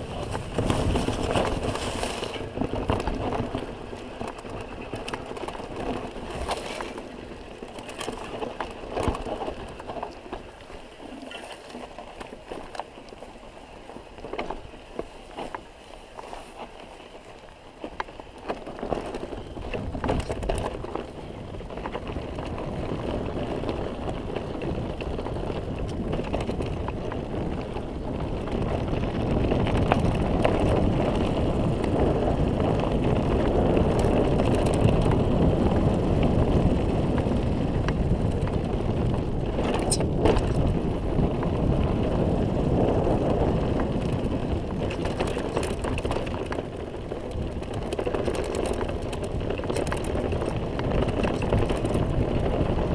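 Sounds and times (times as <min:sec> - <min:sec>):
wind rushing over microphone: 0:00.0 - 0:12.0, 0:17.8 - 0:52.9
bike rattling: 0:00.0 - 0:52.9
tyres crunching over gravel: 0:00.0 - 0:52.9.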